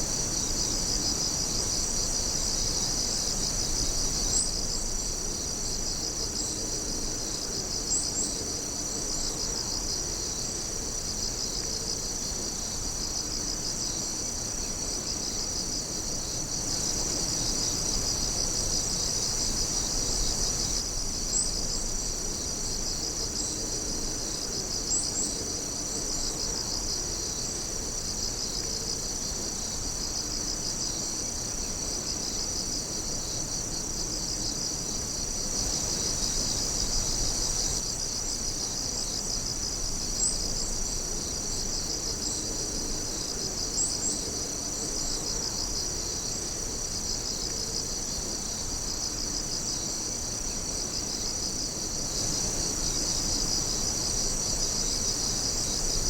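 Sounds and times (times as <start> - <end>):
insects trilling: 0.0 - 56.0
pulsing insect chirp: 0.0 - 56.0.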